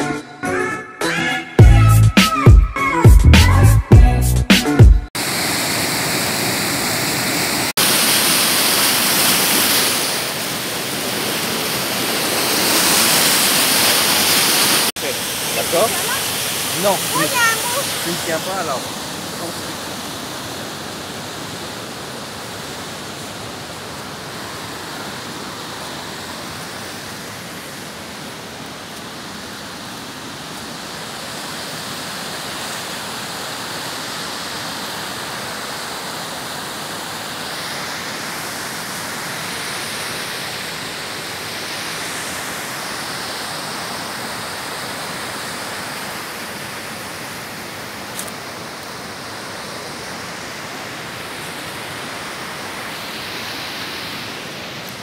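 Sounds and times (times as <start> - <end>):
stream rushing over rocks: 5.2 - 55.0.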